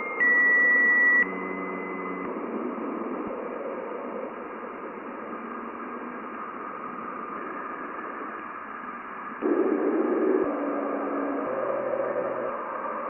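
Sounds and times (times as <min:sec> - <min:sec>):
faint steady tones: 0:00.0 - 0:13.0
hiss of static: 0:02.3 - 0:13.0.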